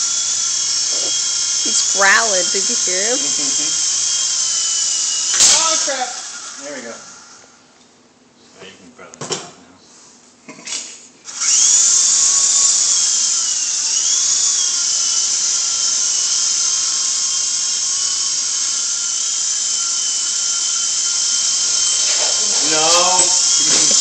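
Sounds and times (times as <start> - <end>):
toy helicopter motor whine: 0.0 - 7.5, 11.3 - 24.0.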